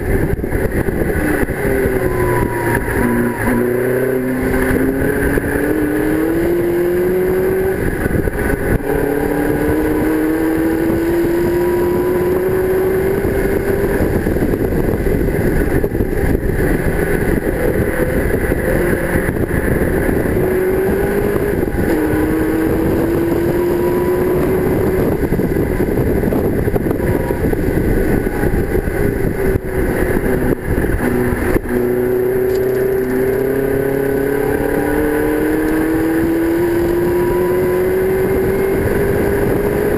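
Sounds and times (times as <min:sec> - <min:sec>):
gear upshifts: 0:00.0 - 0:39.9
racing car engine revving: 0:00.0 - 0:39.9.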